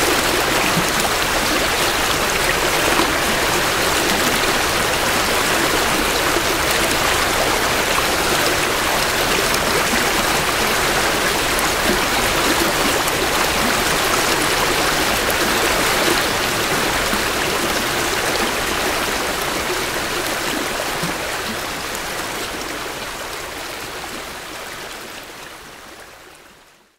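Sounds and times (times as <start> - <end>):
creek water rushing over rocks: 0.0 - 26.5.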